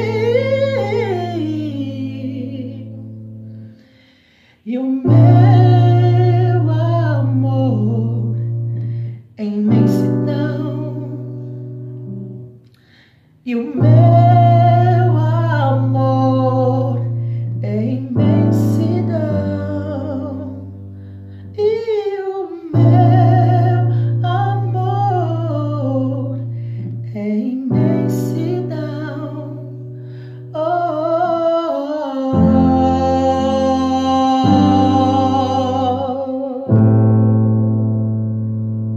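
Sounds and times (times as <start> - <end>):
man singing a slow ballad: 0.0 - 3.6, 4.6 - 12.2, 12.8 - 37.2
held keyboard chords: 5.0 - 12.8, 13.7 - 38.9.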